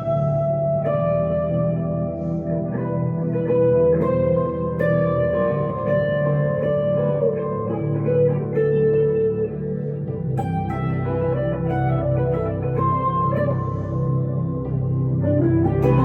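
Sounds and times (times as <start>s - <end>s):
electric guitar lead line: 0.0s - 16.0s
low steady accompaniment: 0.0s - 16.0s.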